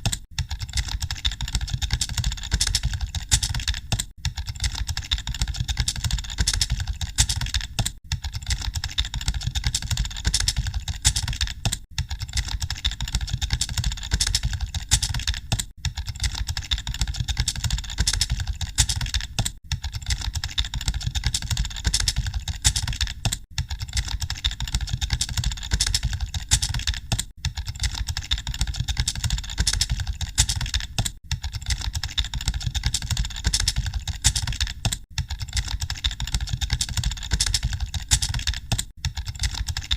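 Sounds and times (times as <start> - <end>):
many keyboards typing: 0.0 - 39.9.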